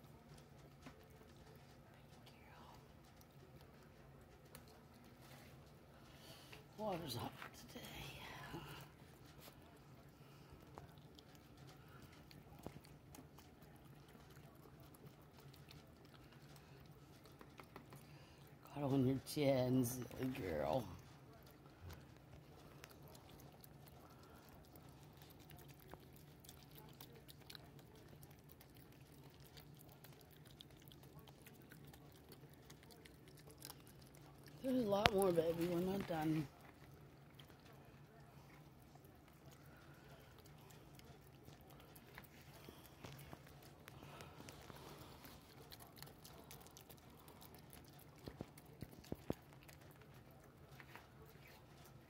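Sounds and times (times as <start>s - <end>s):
raccoon chewing and lip-smacking: 0.0s - 52.0s.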